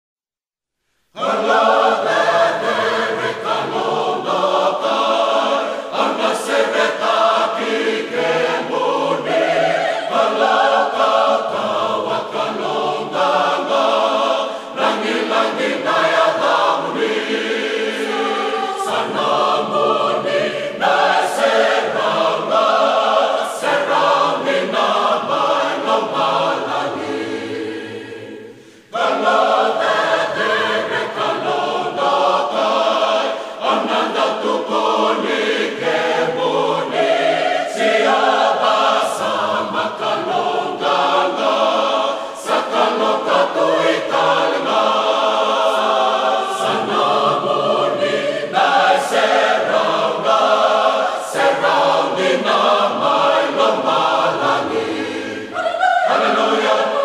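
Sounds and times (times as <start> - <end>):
choir singing a hymn: 1.1 - 57.0.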